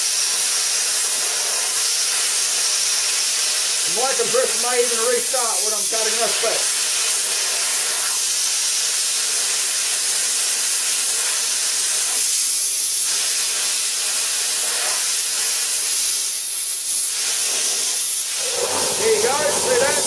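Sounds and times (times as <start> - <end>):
plasma cutter cutting steel: 0.0 - 20.0.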